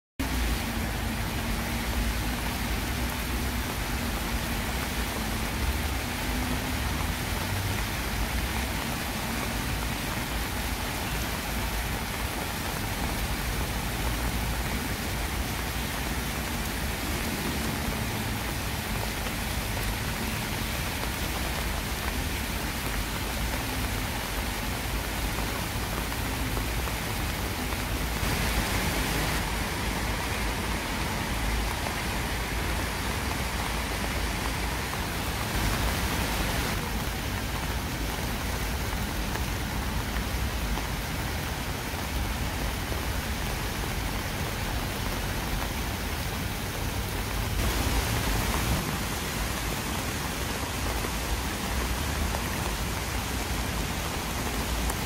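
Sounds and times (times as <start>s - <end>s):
heavy rain on pavement: 0.2s - 55.0s.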